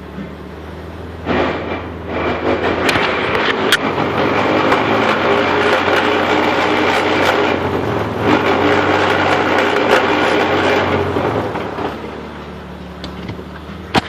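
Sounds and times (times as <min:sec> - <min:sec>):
drivetrain grinding and clunking: 0:00.0 - 0:14.0
engine humming: 0:00.0 - 0:14.0.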